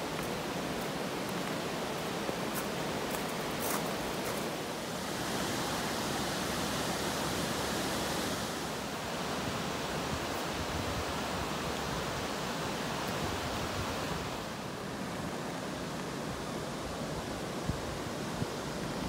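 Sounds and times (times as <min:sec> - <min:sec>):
river water over shallows: 0:00.0 - 0:19.0.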